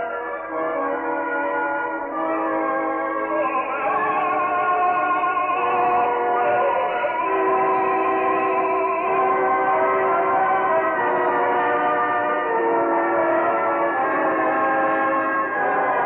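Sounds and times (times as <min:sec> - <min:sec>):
orchestral music old recording: 0:00.0 - 0:16.0.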